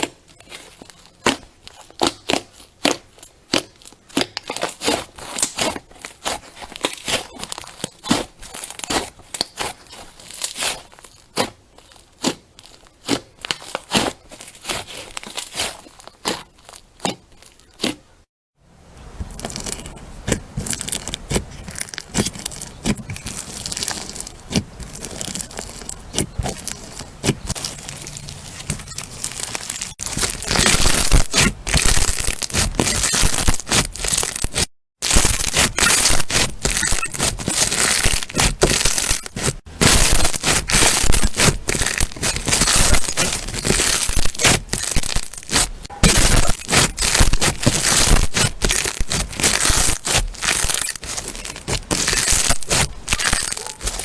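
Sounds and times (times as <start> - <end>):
crunchy slime crackling: 0.0 - 18.2, 19.1 - 54.0.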